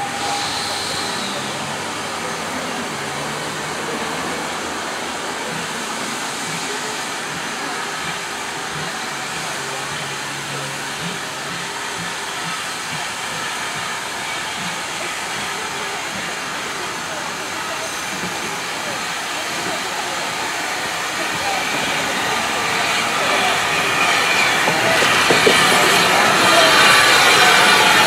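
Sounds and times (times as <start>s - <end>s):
steam locomotive hissing steam: 0.0s - 28.0s.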